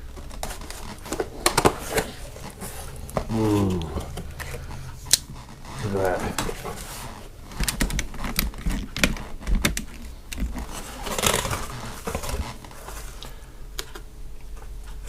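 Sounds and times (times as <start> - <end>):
plastic packaging rustle: 0.0 - 13.4.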